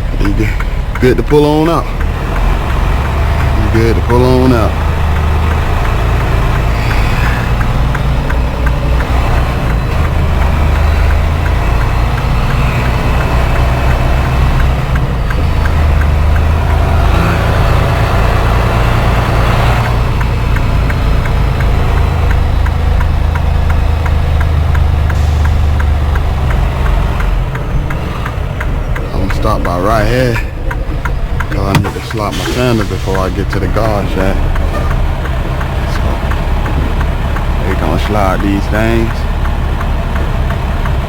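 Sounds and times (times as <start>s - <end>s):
diesel truck engine pulling away: 0.0s - 41.0s.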